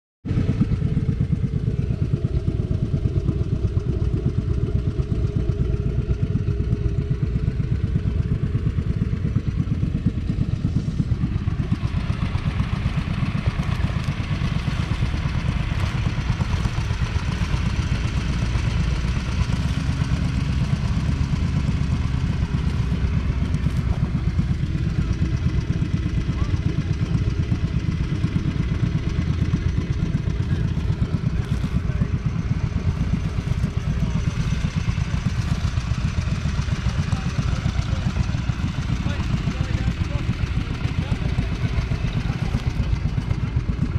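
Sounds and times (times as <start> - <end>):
tractor engine running steadily: 0.2 - 43.9.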